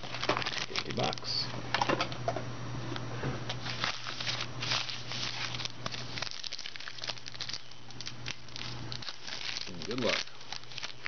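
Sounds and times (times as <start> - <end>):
packaging rustling and crinkling: 0.0 - 1.4, 3.5 - 11.0
low steady hum: 0.0 - 11.0.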